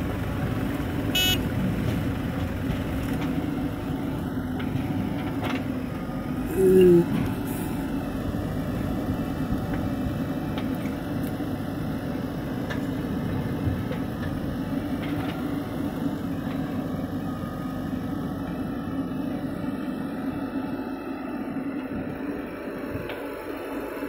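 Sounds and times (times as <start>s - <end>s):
backhoe digging: 0.0s - 24.0s
diesel engine running: 0.0s - 24.0s.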